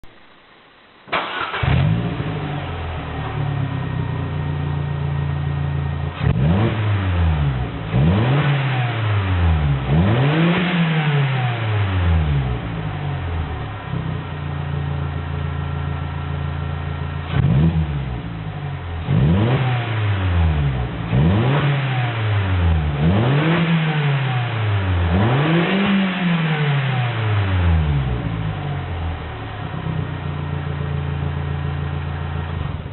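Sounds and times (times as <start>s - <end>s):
car engine revving: 1.1s - 32.9s.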